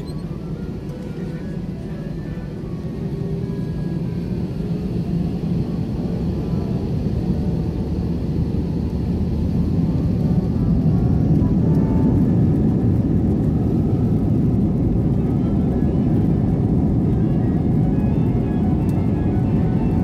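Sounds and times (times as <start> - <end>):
aircraft cabin rumble: 0.0 - 20.0.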